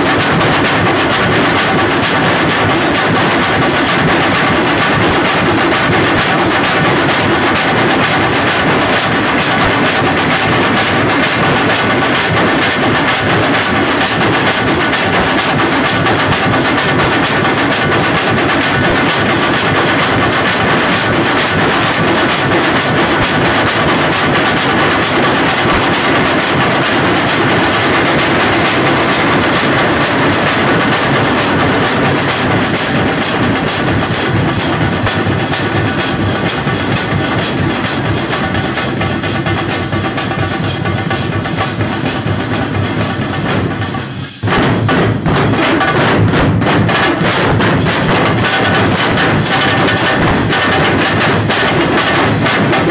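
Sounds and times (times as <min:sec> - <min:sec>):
drum ensemble playing fast rhythm: 0:00.0 - 0:52.9.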